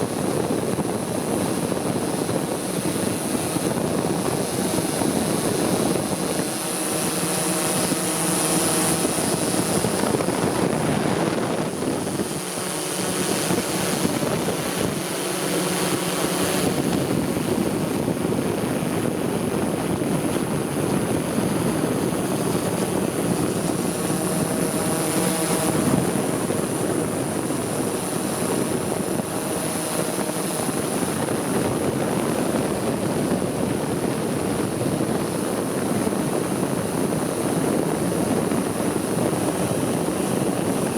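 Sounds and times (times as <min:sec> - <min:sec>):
drone propellers whirring: 0:00.0 - 0:40.9.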